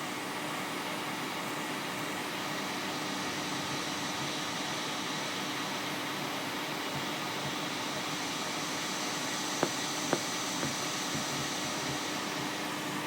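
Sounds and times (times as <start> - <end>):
steady hiss: 2.4 - 13.0.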